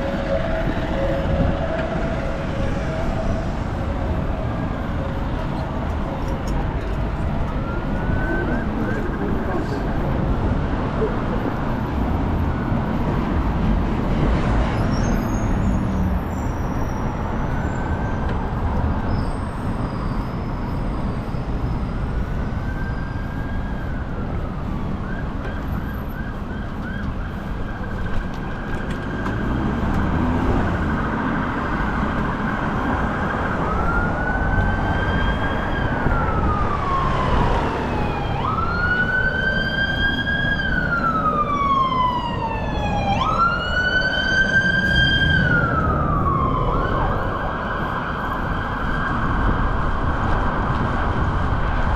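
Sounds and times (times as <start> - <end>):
emergency siren wailing: 0.0 - 14.5, 15.2 - 51.9
road traffic: 0.0 - 51.9.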